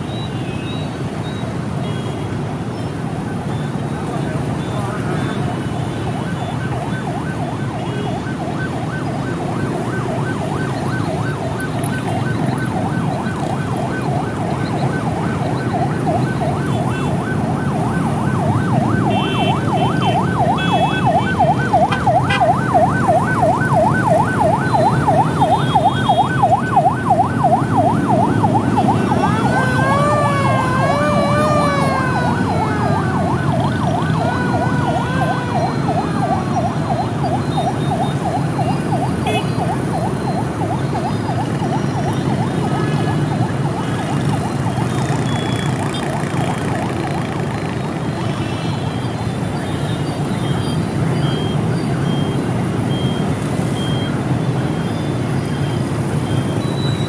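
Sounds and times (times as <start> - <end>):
ambulance siren: 0.0 - 57.0
traffic noise: 0.0 - 57.0.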